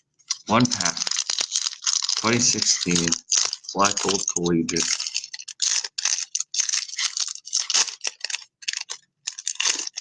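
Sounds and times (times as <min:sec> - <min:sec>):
wrapper tearing and crinkling: 0:00.2 - 0:10.0.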